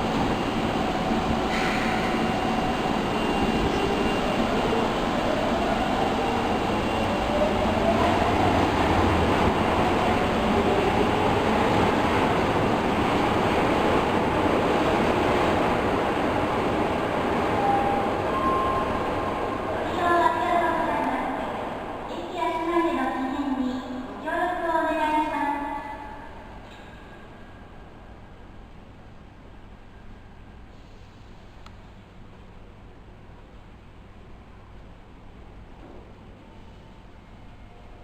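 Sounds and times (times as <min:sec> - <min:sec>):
subway train rumbling: 0:00.0 - 0:38.0.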